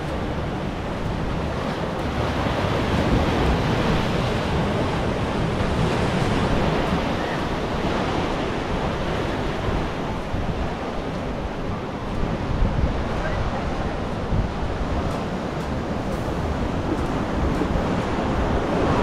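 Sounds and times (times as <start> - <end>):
ocean surf breaking in rock gully: 0.0 - 19.0
wind buffeting microphone: 0.0 - 19.0.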